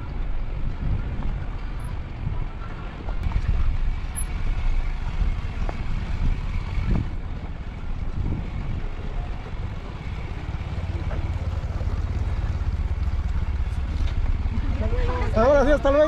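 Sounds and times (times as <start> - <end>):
wind buffeting microphone: 0.0 - 15.3
vehicle rumble on dirt track: 0.0 - 16.0.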